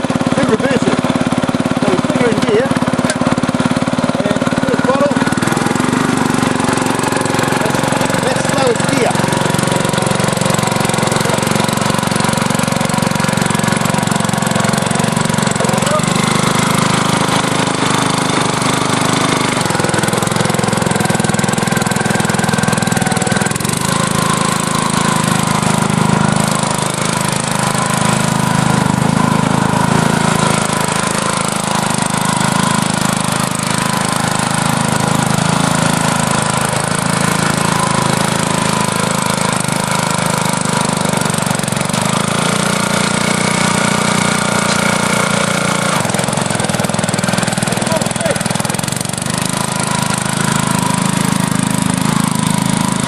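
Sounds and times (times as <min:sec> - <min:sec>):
dump truck engine running: 0:00.0 - 0:53.0.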